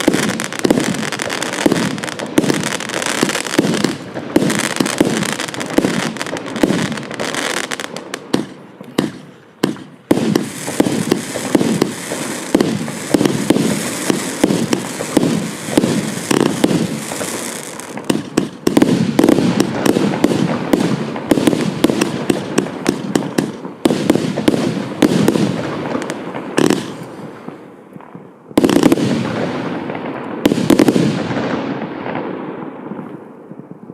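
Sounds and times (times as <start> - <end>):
firework shots and bangs: 0.0 - 33.9.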